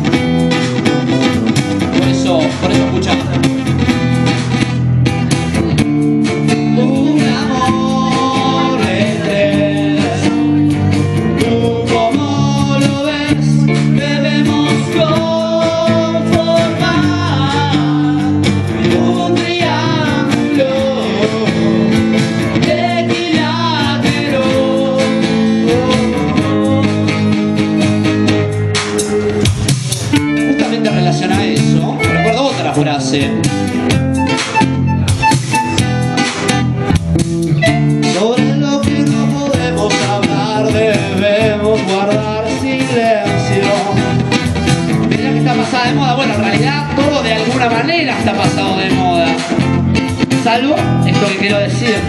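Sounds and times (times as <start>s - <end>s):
man singing: 0.0s - 4.2s, 6.4s - 28.1s, 30.1s - 35.9s, 37.6s - 52.0s
electric bass: 0.0s - 52.0s
keyboard: 0.0s - 52.0s
strummed acoustic guitar: 0.0s - 52.0s.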